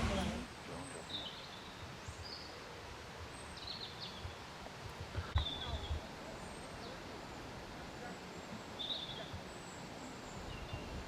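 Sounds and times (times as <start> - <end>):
low background hiss: 0.0 - 11.0
small birds chirping: 0.0 - 11.0.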